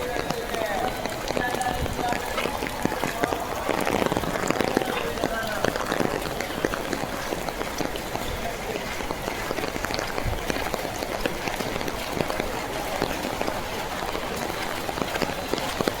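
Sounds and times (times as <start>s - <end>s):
steady rainfall: 0.0s - 16.0s.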